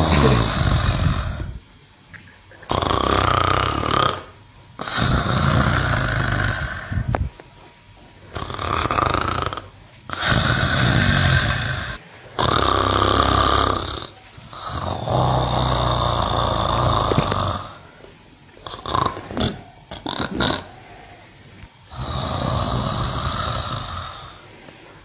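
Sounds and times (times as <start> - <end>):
cow snoring: 0.0 - 1.6, 2.6 - 7.0, 8.2 - 17.9, 18.6 - 20.9, 21.8 - 24.5.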